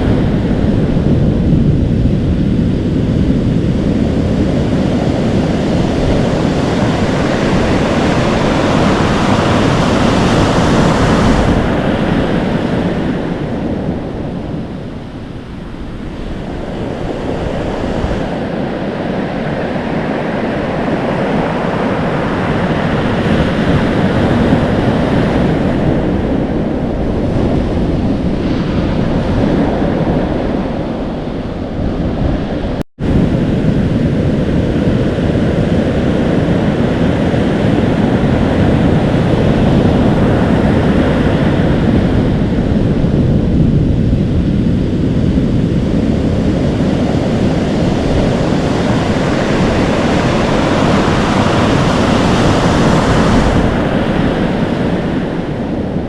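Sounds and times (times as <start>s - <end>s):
waves breaking: 0.0s - 56.0s
wind buffeting microphone: 0.0s - 56.0s.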